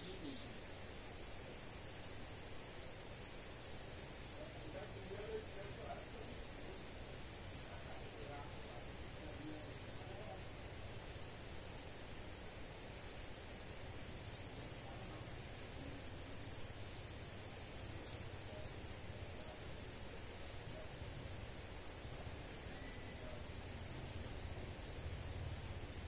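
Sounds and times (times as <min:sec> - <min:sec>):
small bird chirping: 0:00.0 - 0:11.6, 0:12.2 - 0:26.0
low outdoor rumble: 0:00.0 - 0:26.0.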